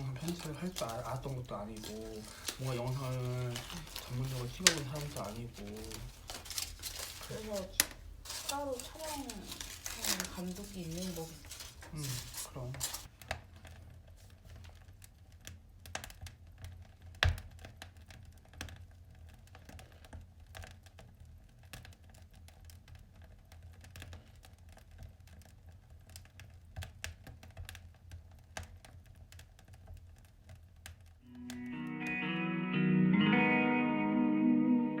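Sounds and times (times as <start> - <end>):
wood fire crackling and popping: 0.0 - 31.3.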